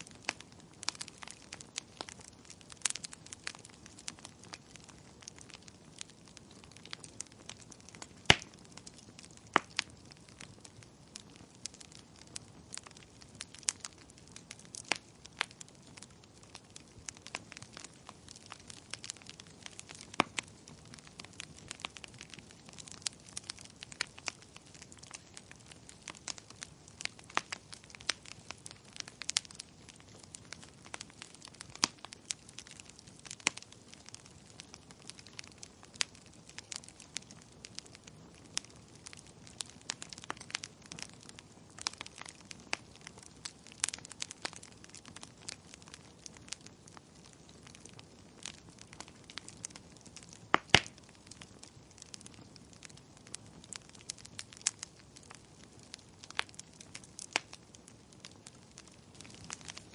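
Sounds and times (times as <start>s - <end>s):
soft hiss of burning: 0.0s - 59.9s
wood fire crackling: 0.0s - 59.9s.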